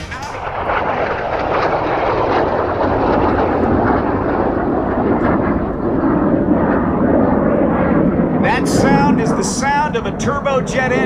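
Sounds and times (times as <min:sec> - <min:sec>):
jet aircraft flying by: 0:00.0 - 0:11.0.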